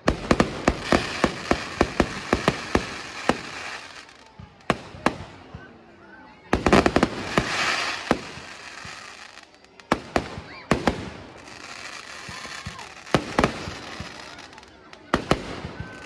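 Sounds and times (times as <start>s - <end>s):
fireworks bangs: 0.0s - 16.0s
fireworks crackling hiss: 0.0s - 16.0s.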